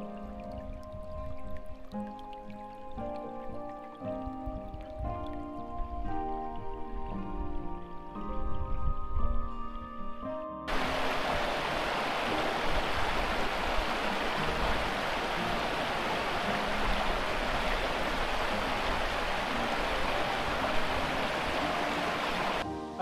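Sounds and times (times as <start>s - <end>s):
stream rushing over stones: 0.0s - 7.6s, 10.7s - 23.0s.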